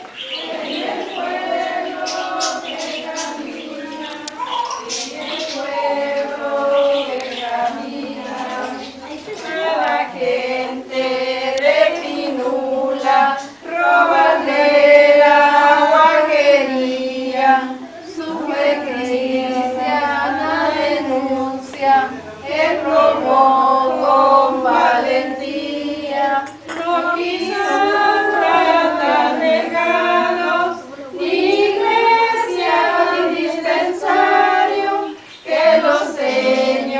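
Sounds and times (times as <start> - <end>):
women and girls singing: 0.0 - 36.9.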